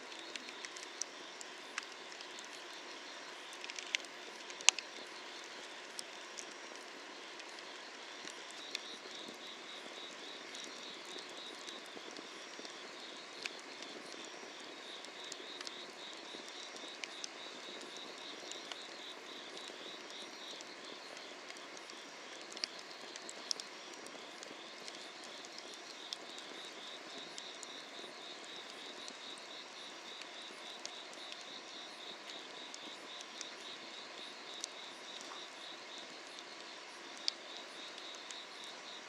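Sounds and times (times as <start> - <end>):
wood fire crackling: 0.0 - 39.0
insects trilling: 0.1 - 39.0.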